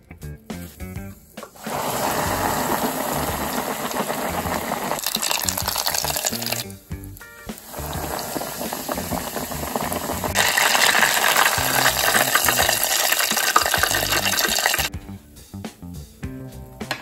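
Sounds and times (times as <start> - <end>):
food sizzling in hot oil: 1.3 - 14.9.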